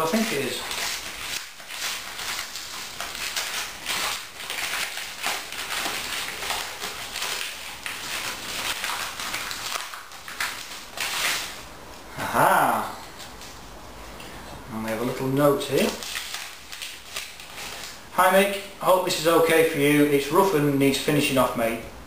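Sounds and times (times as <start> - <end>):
wrapping rustling and crackling: 0.0 - 21.4.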